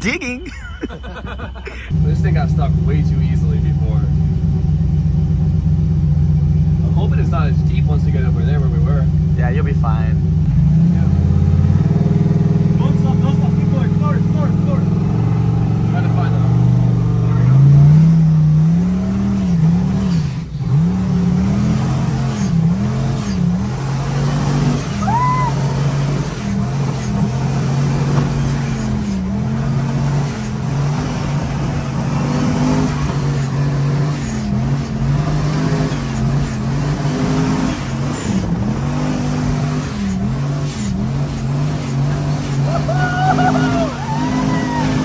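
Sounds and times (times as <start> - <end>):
vehicle engine revving: 0.0 - 45.0.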